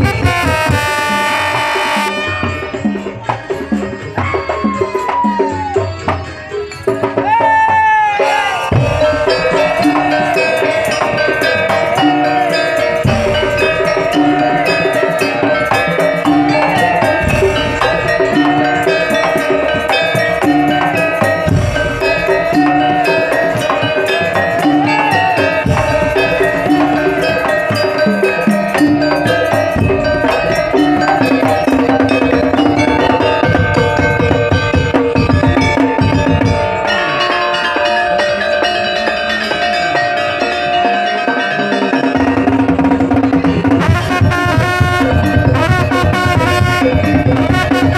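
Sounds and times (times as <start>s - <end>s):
wavering lead melody: 0.0s - 7.2s, 8.2s - 47.9s
drums gongs and bells beat: 0.0s - 47.9s.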